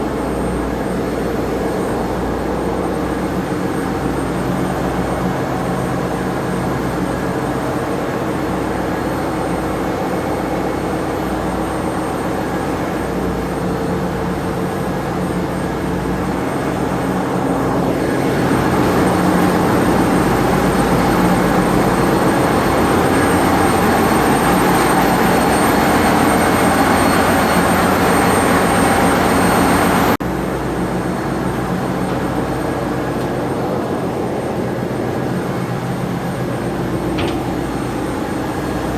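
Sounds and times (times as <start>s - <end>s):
engine room machinery drone: 0.0s - 38.9s.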